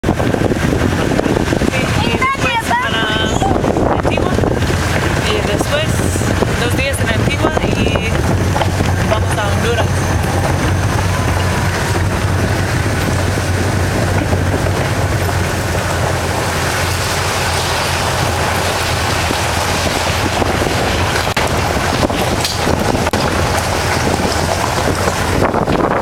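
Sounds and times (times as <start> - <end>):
low engine drone: 0.0 - 26.0
road noise: 0.0 - 26.0
wind rushing over microphone: 0.0 - 26.0.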